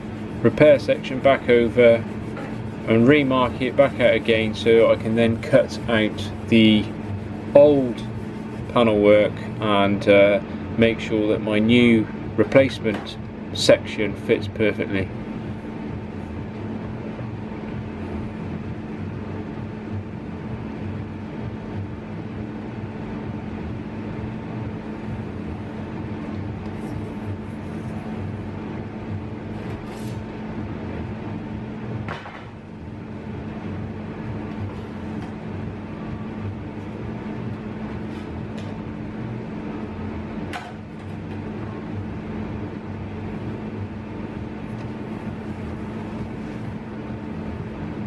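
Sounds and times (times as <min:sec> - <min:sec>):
workshop equipment humming: 0:00.0 - 0:48.0.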